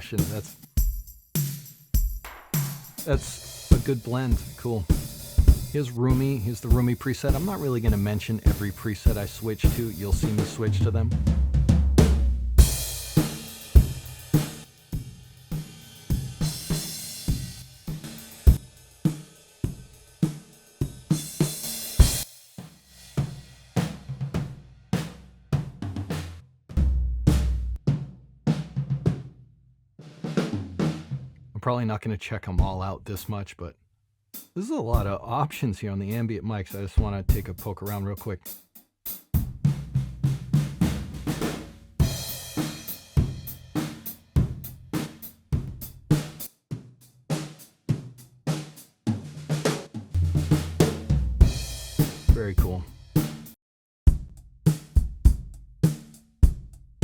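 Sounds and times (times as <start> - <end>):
drum kit pop groove: 0.0 - 29.2, 30.1 - 31.3, 32.6 - 33.3, 34.4 - 57.0.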